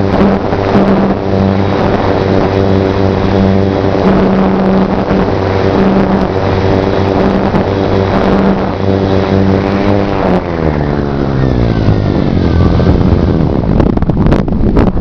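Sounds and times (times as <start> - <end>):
electric motor and propeller buzz: 0.0 - 15.0
wind noise on microphone: 0.0 - 15.0.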